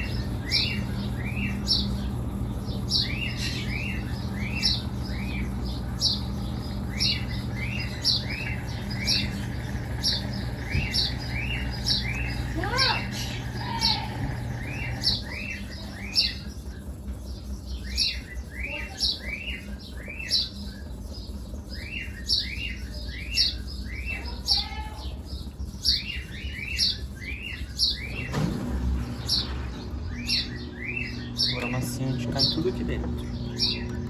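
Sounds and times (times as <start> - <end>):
small bird chirping: 0.0 - 34.0.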